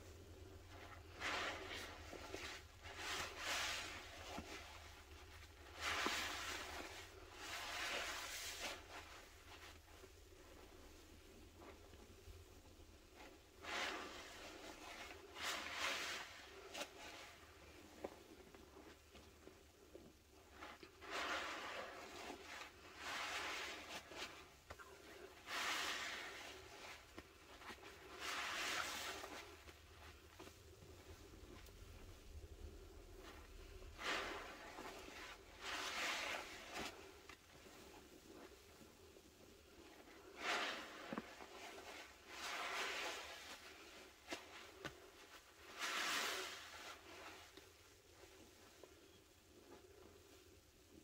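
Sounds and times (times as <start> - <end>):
wet sponge squeezing: 0.1 - 50.6.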